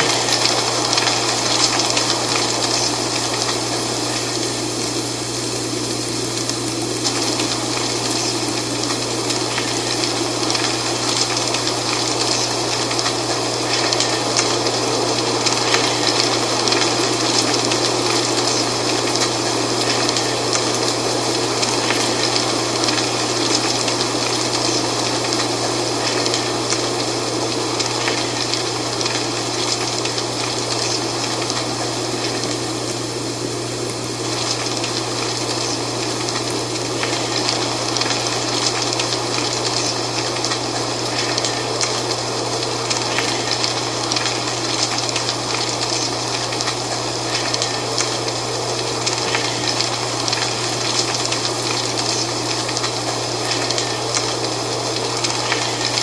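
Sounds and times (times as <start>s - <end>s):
wind rustling dry leaves: 0.0s - 56.0s.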